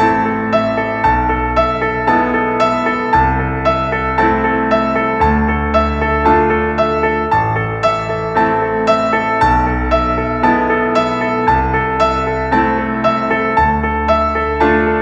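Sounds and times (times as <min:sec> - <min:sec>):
gentle piano tune: 0:00.0 - 0:15.0
slow bass chords: 0:00.0 - 0:15.0.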